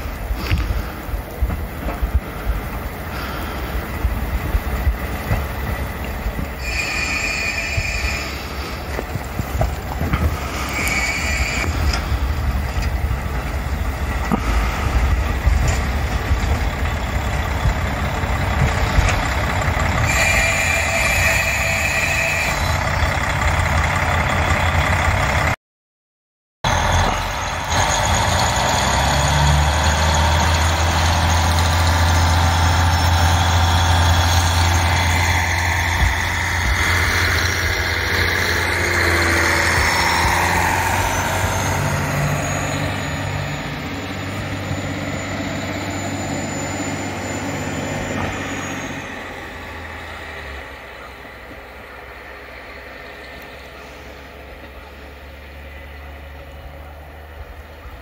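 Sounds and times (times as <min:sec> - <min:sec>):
diesel railcar engine droning: 0:00.0 - 0:25.6, 0:26.6 - 0:58.0.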